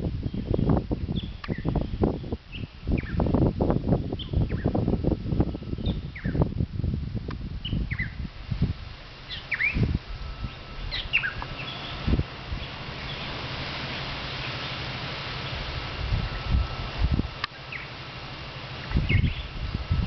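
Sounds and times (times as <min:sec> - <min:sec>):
wind buffeting microphone: 0:00.0 - 0:20.0
birds chirping: 0:00.2 - 0:03.4, 0:04.1 - 0:06.5, 0:07.6 - 0:08.3, 0:09.0 - 0:20.0.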